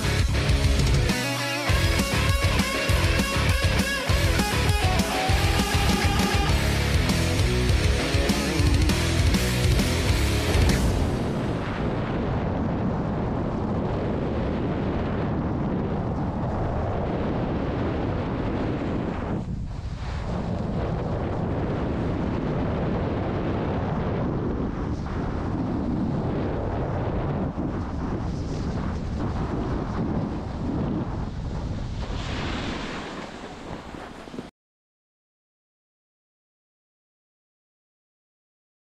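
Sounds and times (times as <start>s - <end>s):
snowboard scraping over snow: 0.0s - 34.5s
wind on microphone: 0.0s - 34.5s.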